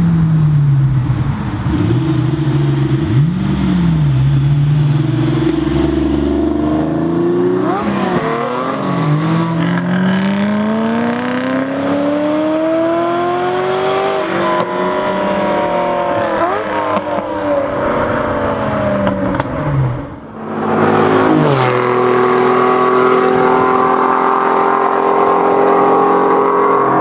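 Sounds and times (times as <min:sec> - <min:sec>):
car engine revving and accelerating: 0:01.5 - 0:27.0.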